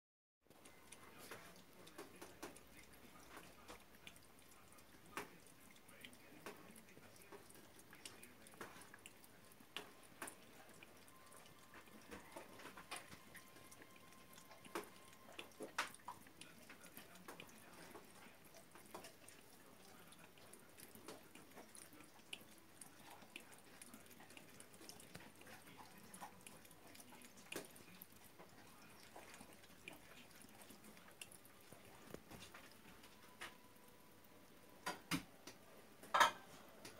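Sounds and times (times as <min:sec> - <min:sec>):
cat lapping water: 0:00.5 - 0:36.9.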